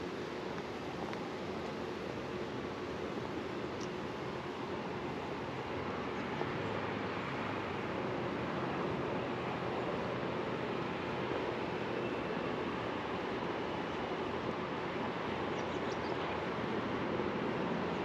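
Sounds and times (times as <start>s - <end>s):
city ambience rushing noise: 0.0s - 18.0s.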